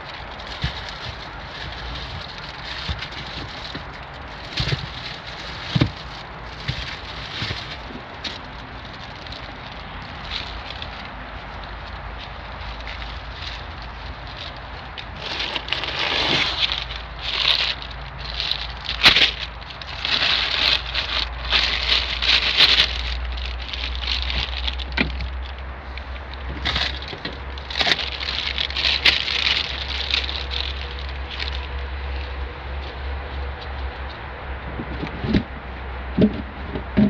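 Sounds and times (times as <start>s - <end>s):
rustling and crackling: 0.0s - 37.0s
steady low rumble: 0.0s - 37.0s.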